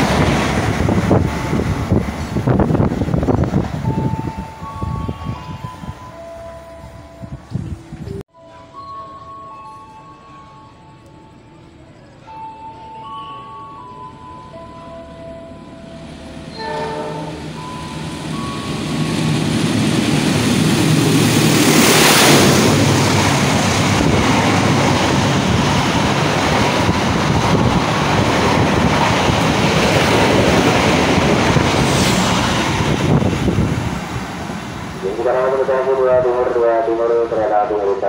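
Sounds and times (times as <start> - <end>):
express train passing at speed: 0.0 - 38.0.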